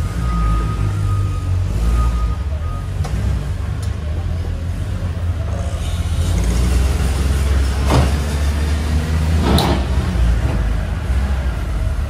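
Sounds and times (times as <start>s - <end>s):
forklift engine rumble: 0.0s - 12.0s.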